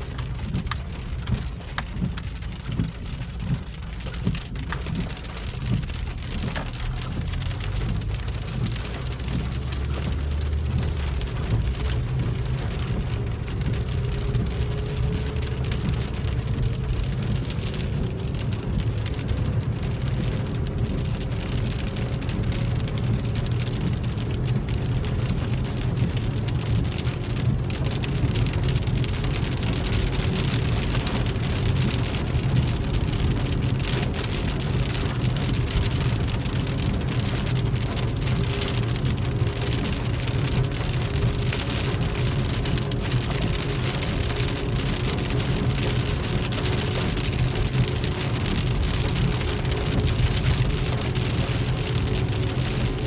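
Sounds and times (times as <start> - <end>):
constant low rumble: 0.0 - 53.0
rain drumming on car roof: 0.0 - 53.0.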